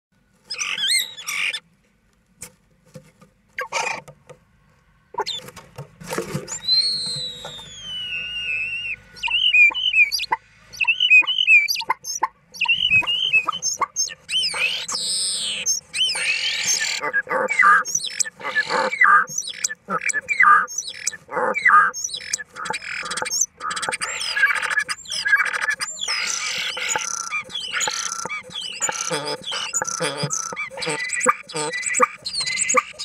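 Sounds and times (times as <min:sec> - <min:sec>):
starling singing: 0:00.5 - 0:01.6, 0:06.5 - 0:33.0.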